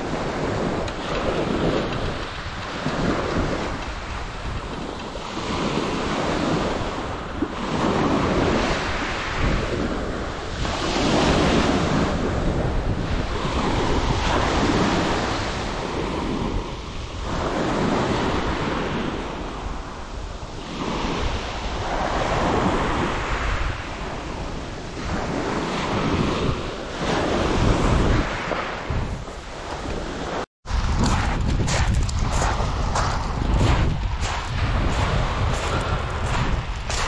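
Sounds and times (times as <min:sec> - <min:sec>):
waves washing on shingle: 0:00.0 - 0:37.0
wind buffeting microphone: 0:00.0 - 0:37.0.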